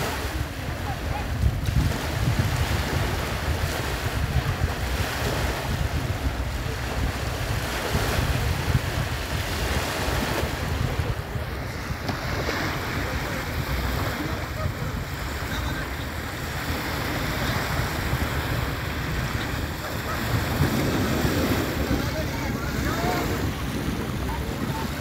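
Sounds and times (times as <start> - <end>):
small waves breaking on sand: 0.0 - 25.0
wind buffeting microphone: 0.0 - 25.0.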